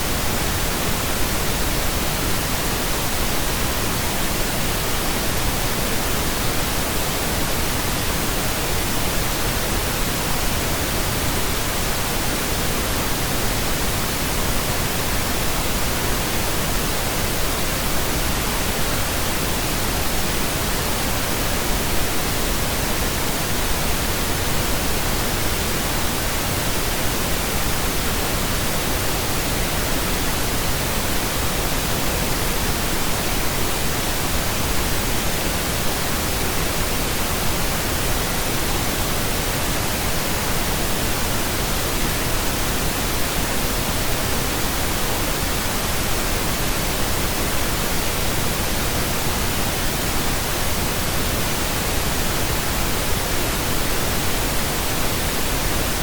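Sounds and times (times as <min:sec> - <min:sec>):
pink noise hiss: 0:00.0 - 0:56.0.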